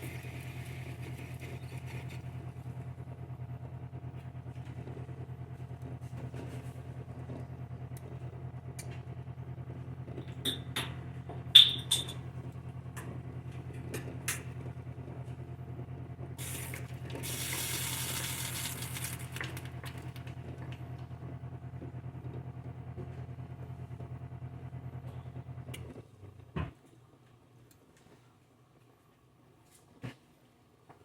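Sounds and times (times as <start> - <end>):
low motor hum: 0.0 - 26.8.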